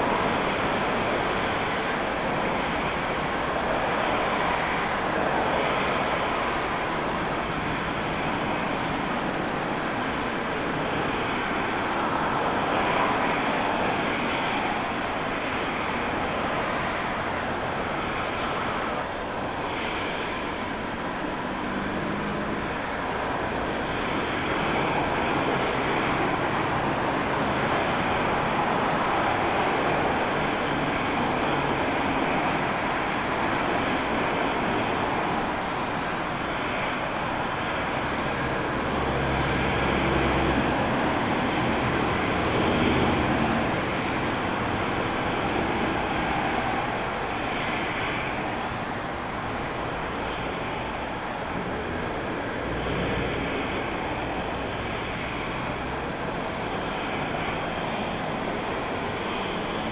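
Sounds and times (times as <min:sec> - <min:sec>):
jet airliner rumble and roar: 0:00.0 - 0:59.9.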